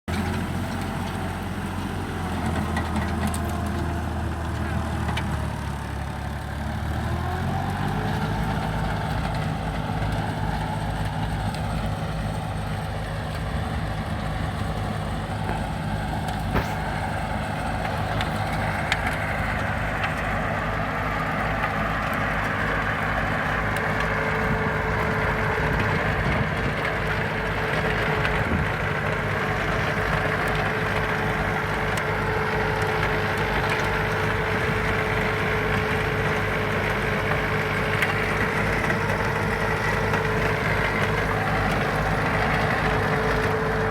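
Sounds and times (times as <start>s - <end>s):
rotary tiller engine running: 0.1s - 43.9s.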